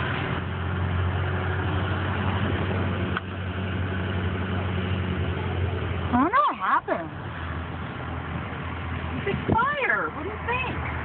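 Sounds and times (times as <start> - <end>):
car engine drone inside cabin: 0.0 - 11.0.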